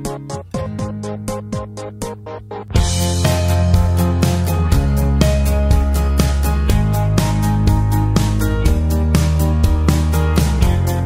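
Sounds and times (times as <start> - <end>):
background music with steady beat: 0.0 - 11.0
held bass line: 0.0 - 11.0.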